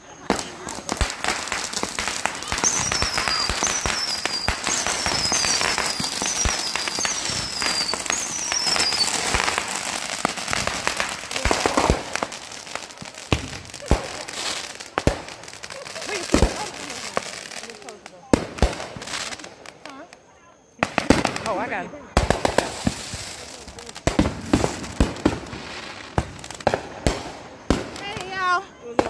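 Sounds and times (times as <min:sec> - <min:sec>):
fireworks crackling: 0:00.0 - 0:29.0
fireworks sharp bangs: 0:00.0 - 0:29.0
fireworks whistles falling in pitch: 0:00.0 - 0:29.0.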